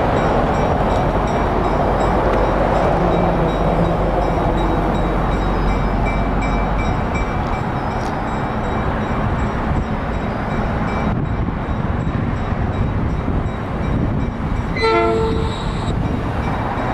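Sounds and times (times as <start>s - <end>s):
train rumbling: 0.0s - 16.9s.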